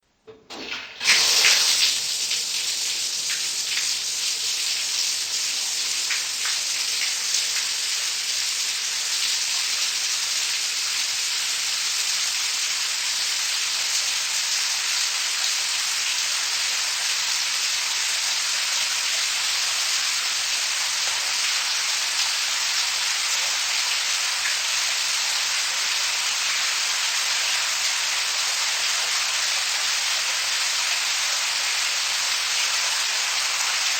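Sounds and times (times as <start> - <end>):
shower water running: 0.3 - 33.9.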